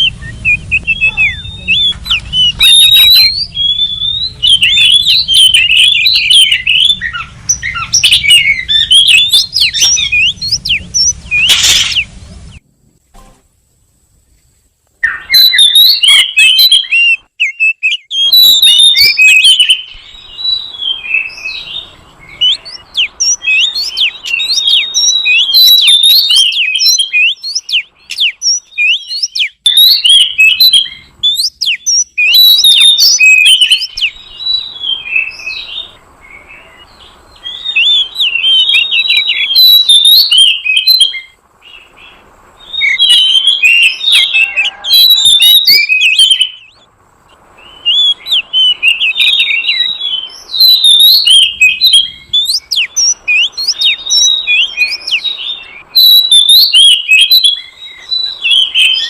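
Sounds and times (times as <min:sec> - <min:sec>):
songbird whistles and chirps: 0:00.0 - 0:12.6, 0:15.0 - 0:59.0.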